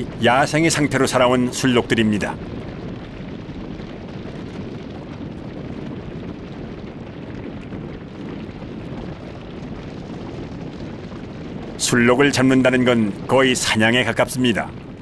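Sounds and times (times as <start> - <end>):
hooves rumbling on snow: 0.0 - 15.0.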